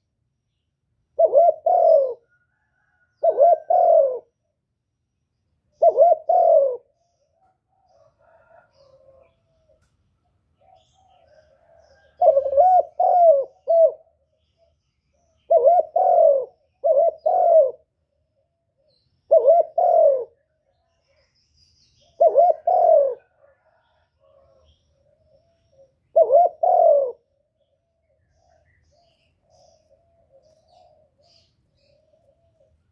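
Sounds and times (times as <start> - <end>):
bird cooing: 1.1 - 4.5, 5.7 - 9.9, 10.6 - 32.9.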